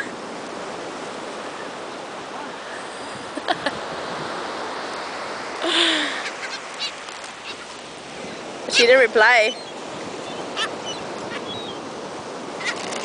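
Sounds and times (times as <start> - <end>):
ocean surf: 0.0 - 13.0
wind: 0.0 - 13.0.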